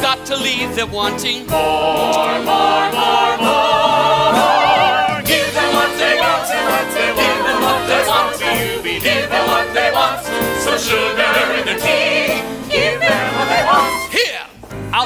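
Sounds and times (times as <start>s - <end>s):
pit band playing show tune: 0.0s - 15.0s
ensemble voices singing: 1.0s - 14.6s.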